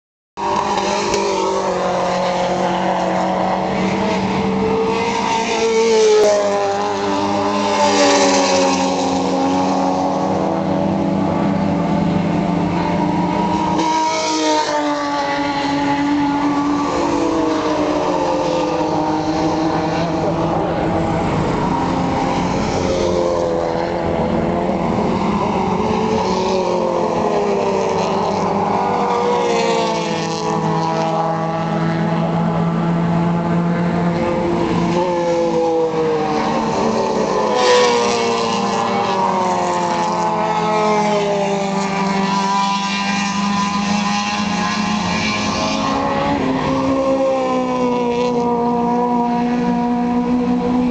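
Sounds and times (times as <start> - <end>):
race car engines running hard: 0.4 - 50.9.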